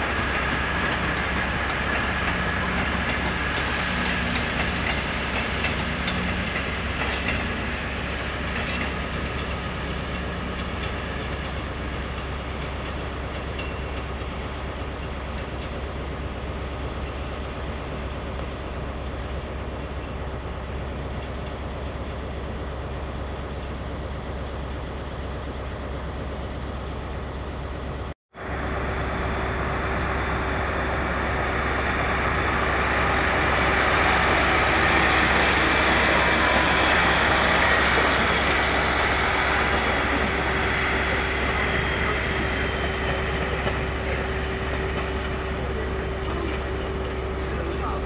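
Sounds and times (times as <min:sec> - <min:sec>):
diesel train passing: 0:00.0 - 0:48.0
train rumble: 0:00.0 - 0:48.0.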